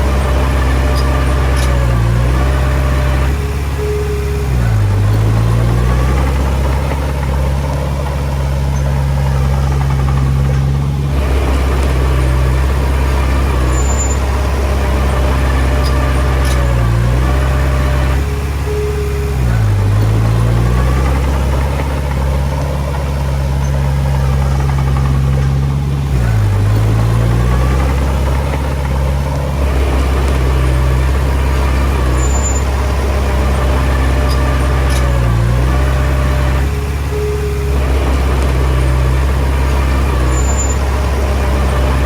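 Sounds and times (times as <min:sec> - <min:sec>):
bulldozer diesel engine: 0:00.0 - 0:42.0.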